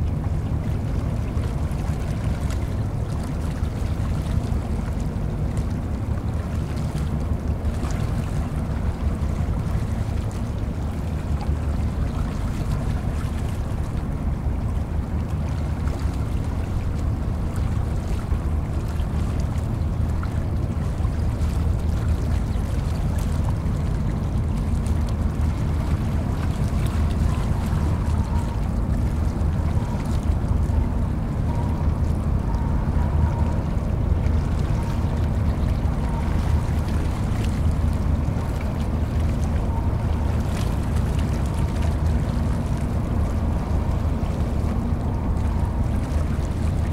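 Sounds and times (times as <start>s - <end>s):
tugboat diesel engines droning: 0.0s - 46.9s.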